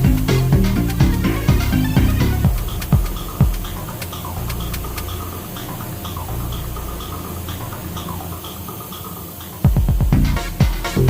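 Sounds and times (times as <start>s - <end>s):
electronic music with drum beat: 0.0s - 11.0s
stepping bass line: 0.0s - 11.0s.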